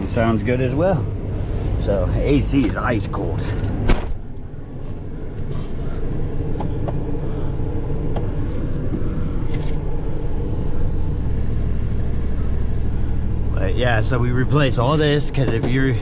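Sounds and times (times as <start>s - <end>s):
truck engine drone from cab: 0.0s - 16.0s.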